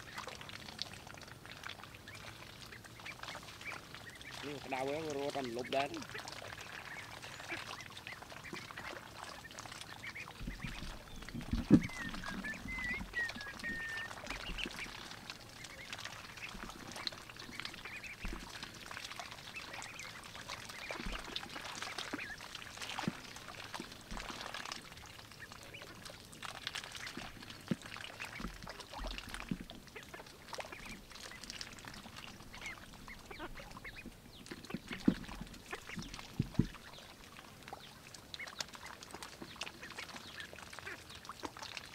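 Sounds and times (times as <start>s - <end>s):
ducklings splashing in water: 0.0s - 41.9s.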